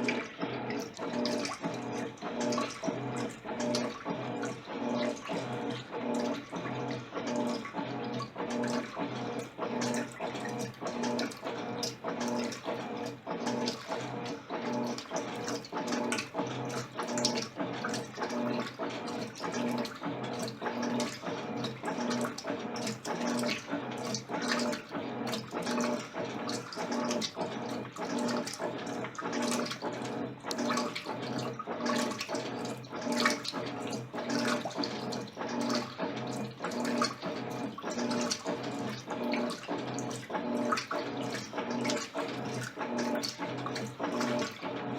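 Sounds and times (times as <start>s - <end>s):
washing machine motor humming: 0.0s - 44.9s
water sloshing in drum: 0.0s - 44.9s.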